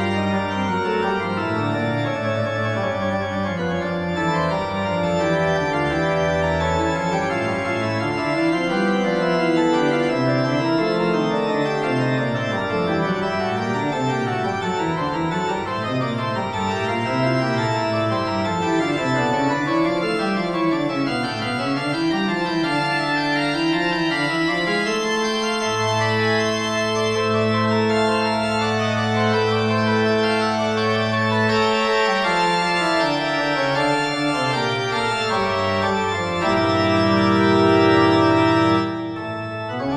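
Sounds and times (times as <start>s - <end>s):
organ music: 0.0s - 39.9s.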